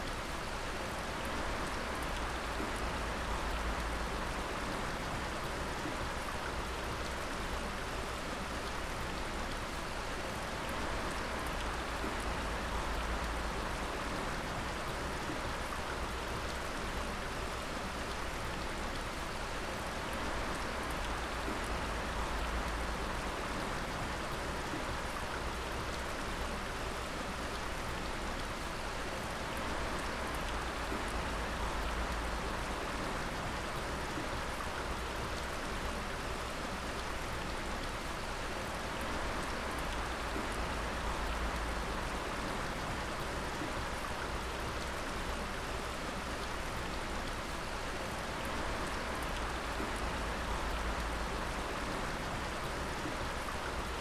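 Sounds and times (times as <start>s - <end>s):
water dripping onto water and rock: 1.2s - 54.0s.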